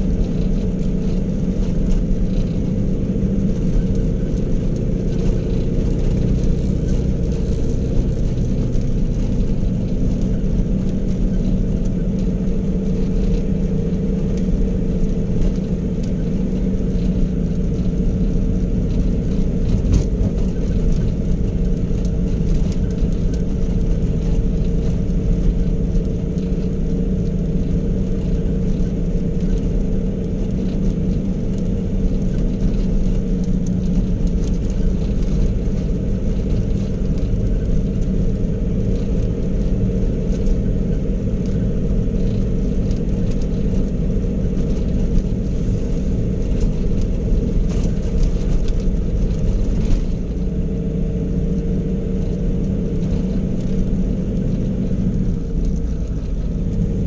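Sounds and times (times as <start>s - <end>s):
engine drone inside vehicle: 0.0s - 57.0s
road noise: 0.0s - 57.0s.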